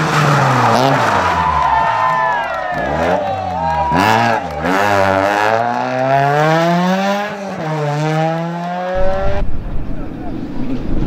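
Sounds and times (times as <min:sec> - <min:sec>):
rally car engine revving: 0:00.0 - 0:10.9.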